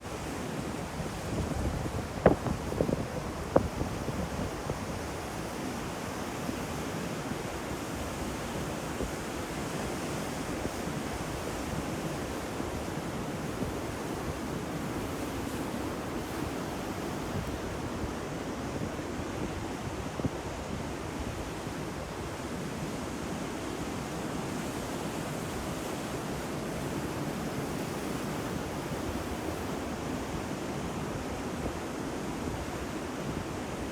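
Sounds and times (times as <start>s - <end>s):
ocean surf washing: 0.0s - 33.9s.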